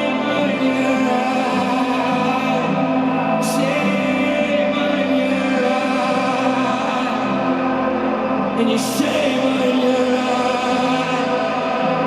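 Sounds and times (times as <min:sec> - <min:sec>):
live concert music: 0:00.0 - 0:12.0
wordless choir-like singing: 0:00.0 - 0:12.0.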